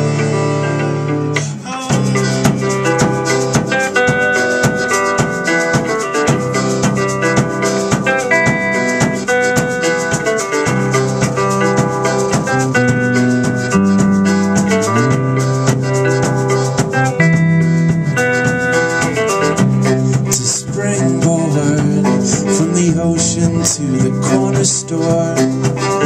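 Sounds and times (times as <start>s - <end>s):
accordion: 0.0s - 26.0s
strummed acoustic guitar: 0.0s - 26.0s
shaker percussion beat: 1.8s - 26.0s.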